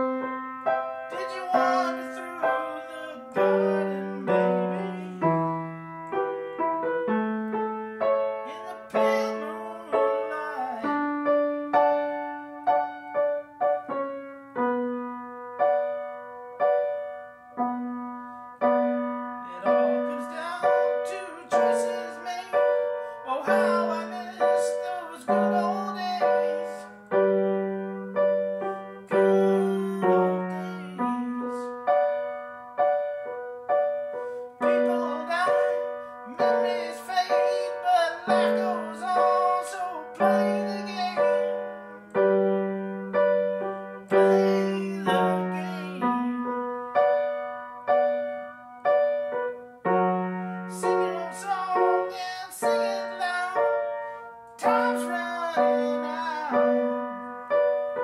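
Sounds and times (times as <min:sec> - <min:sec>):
piano playing chords: 0:00.0 - 0:58.0.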